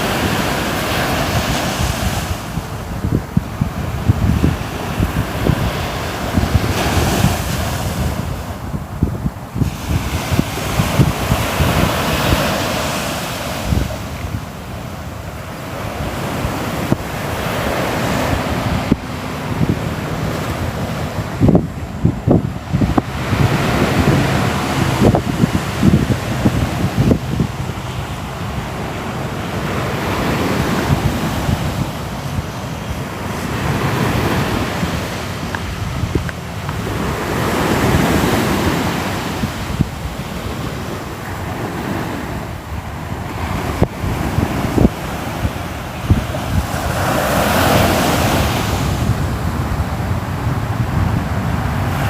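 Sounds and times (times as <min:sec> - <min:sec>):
sea waves breaking on shore: 0:00.0 - 0:52.0
wind: 0:00.0 - 0:52.0.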